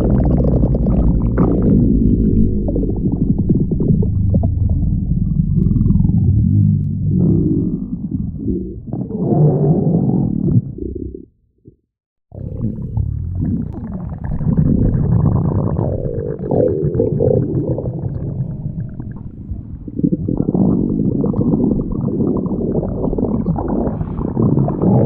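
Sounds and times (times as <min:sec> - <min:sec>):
stomach growling: 0:00.0 - 0:25.0.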